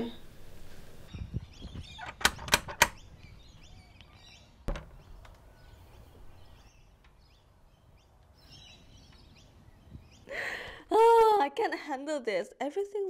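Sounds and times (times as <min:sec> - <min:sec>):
birds chirping faintly: 0:00.0 - 0:11.7.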